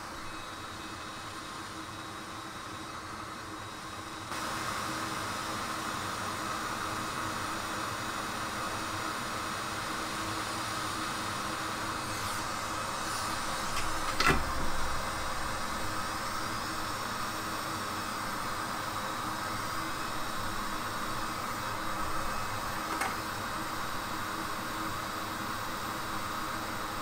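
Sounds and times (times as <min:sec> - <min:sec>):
hot air station hissing: 0:00.0 - 0:27.0.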